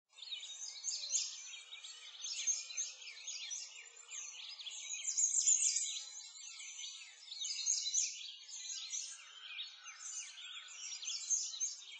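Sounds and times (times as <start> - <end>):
birds chirping and singing: 0.2 - 11.9.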